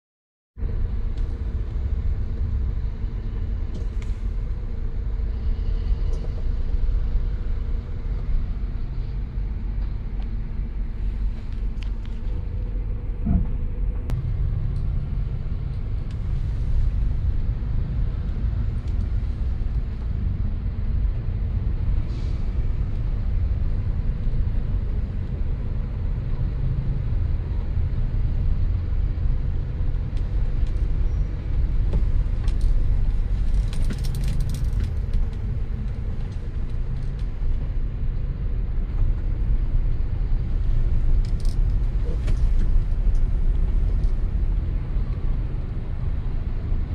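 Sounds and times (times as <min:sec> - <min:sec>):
road traffic rumble: 0:00.6 - 0:46.9.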